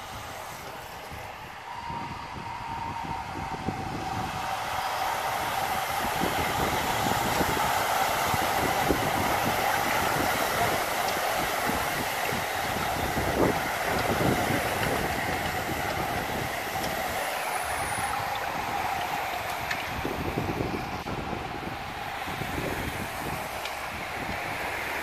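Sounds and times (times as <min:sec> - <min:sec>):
bicycle tyres on tarmac: 0:00.0 - 0:25.0
freewheel hubs clicking: 0:02.6 - 0:25.0.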